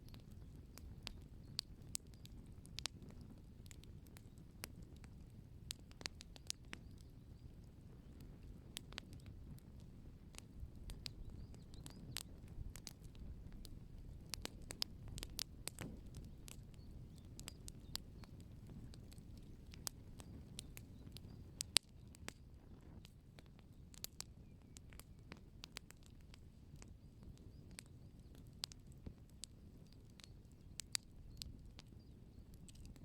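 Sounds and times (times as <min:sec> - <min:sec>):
low fire rumble: 0:00.0 - 0:33.0
wood fire crackling and popping: 0:00.0 - 0:33.0.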